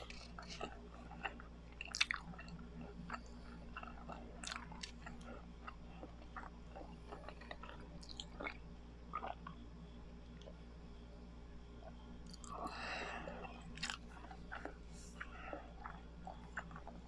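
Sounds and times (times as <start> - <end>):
sticky chewing and smacking: 0.0 - 9.6, 11.8 - 17.0.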